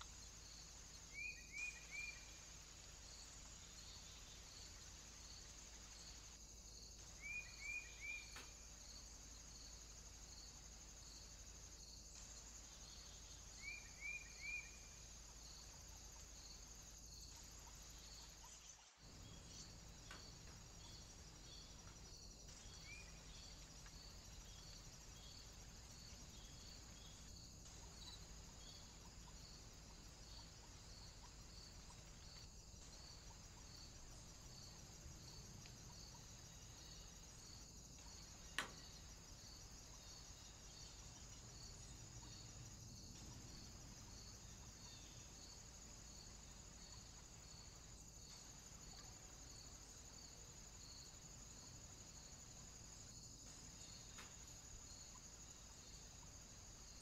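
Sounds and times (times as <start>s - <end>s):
faint hiss: 0.0s - 57.0s
insect chirping: 0.0s - 57.0s.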